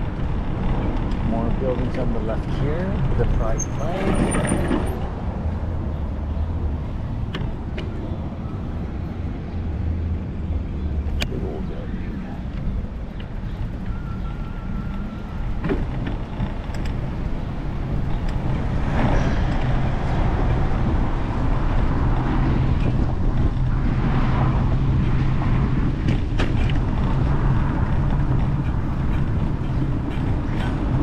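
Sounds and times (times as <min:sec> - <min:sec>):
road and wind noise: 0:00.0 - 0:31.0
vehicle engine humming: 0:00.0 - 0:31.0.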